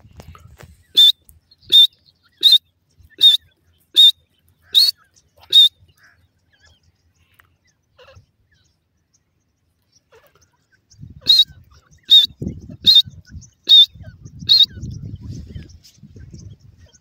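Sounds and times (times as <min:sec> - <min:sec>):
partridge chick peeping: 0:00.0 - 0:17.0.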